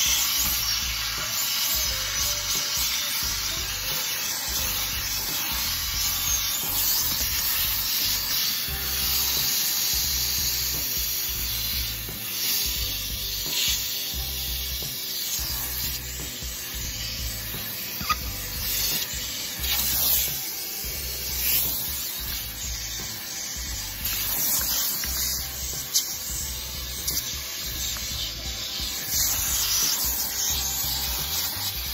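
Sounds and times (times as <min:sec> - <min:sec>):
shop vacuum sucking carpet: 0:00.0 - 0:31.9.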